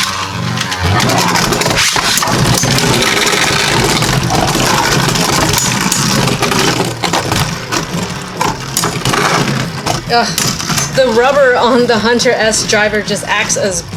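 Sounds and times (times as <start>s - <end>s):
spinning tops whirring: 0.0s - 13.9s.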